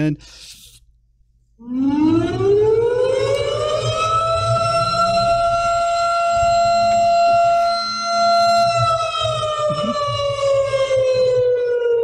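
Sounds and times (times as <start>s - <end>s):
air raid siren wailing: 1.6s - 12.0s.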